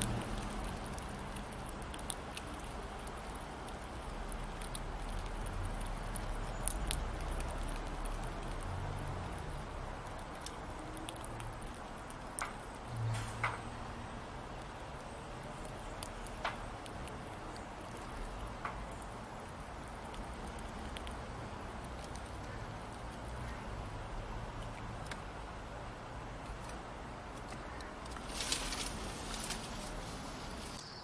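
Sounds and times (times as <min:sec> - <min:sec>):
squirrel cracking seed shells: 0:00.0 - 0:29.9.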